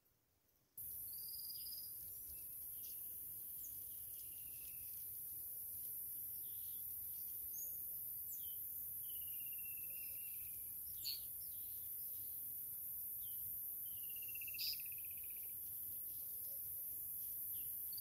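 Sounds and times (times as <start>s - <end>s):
steady high hiss: 0.8s - 18.0s.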